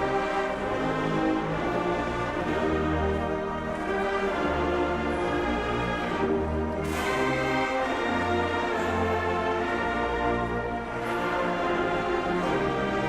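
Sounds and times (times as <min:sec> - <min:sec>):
marching band brass chords: 0:00.0 - 0:13.0.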